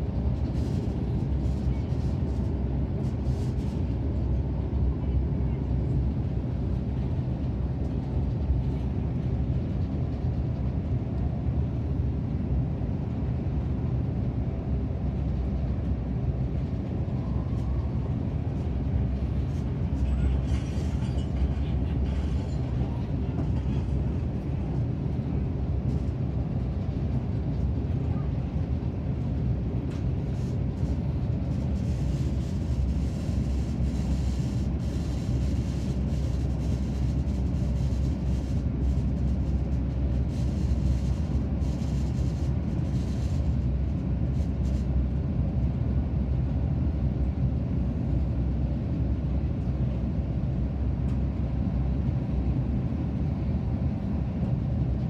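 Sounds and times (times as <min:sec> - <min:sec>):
train running low rumble: 0:00.0 - 0:55.0.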